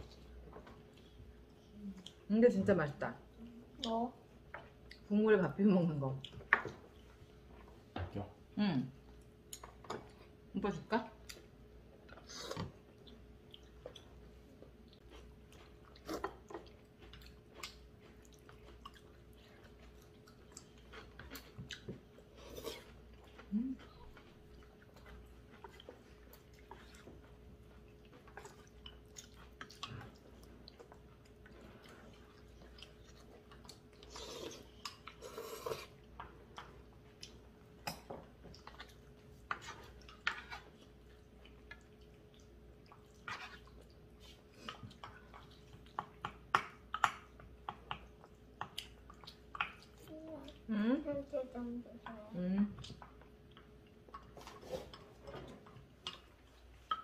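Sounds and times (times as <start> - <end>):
faint steady hum: 0.0 - 57.0
people chewing: 11.2 - 57.0.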